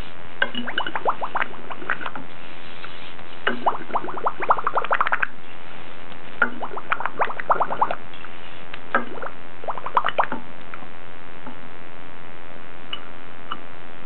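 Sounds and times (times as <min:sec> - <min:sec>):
steady hiss: 0:00.0 - 0:00.7, 0:01.5 - 0:03.7, 0:05.0 - 0:06.4, 0:07.0 - 0:14.0.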